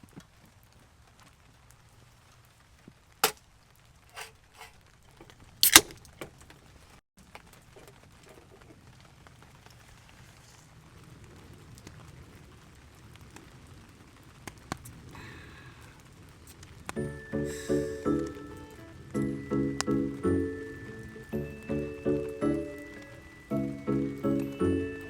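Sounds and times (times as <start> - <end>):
faint steady noise: 0.0 - 25.0.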